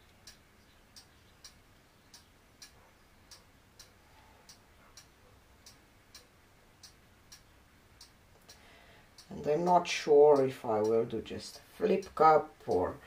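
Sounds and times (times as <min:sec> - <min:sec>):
faint even ticking: 0:00.0 - 0:13.0.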